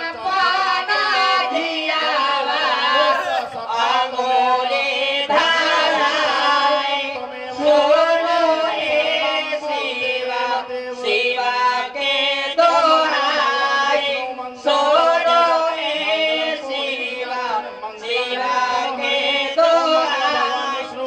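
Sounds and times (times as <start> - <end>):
harmonium accompaniment: 0.0 - 21.0
person singing folk song: 0.0 - 21.0.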